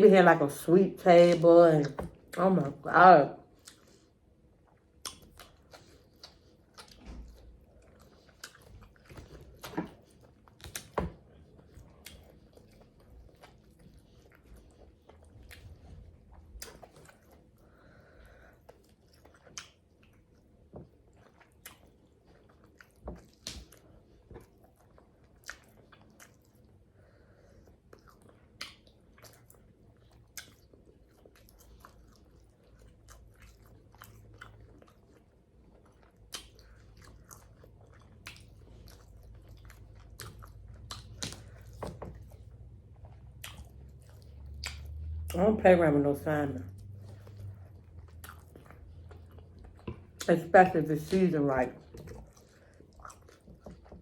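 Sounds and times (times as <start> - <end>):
person chewing with mouth smacks: 3.4 - 45.4, 46.7 - 50.3, 51.8 - 54.0.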